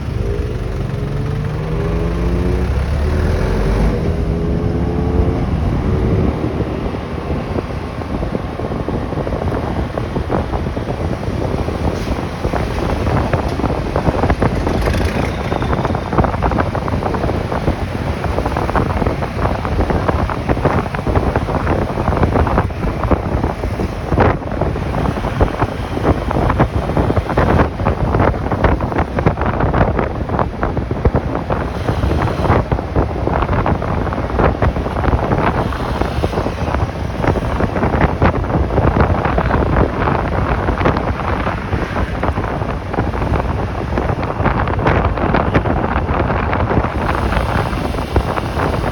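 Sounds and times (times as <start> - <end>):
motorcycle engine: 0.0 - 48.9
road noise: 0.0 - 48.9
wind buffeting microphone: 0.0 - 48.9.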